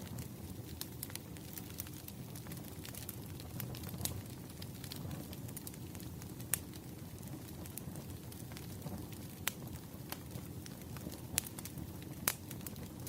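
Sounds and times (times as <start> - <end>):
firewood crackling: 0.0 - 13.0.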